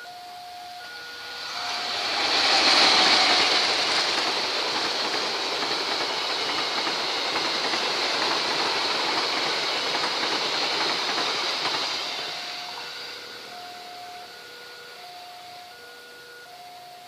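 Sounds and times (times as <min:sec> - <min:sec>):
diesel locomotive passing: 0:00.0 - 0:17.0
high hiss: 0:00.0 - 0:17.0
wheels rushing on rails: 0:00.0 - 0:17.0.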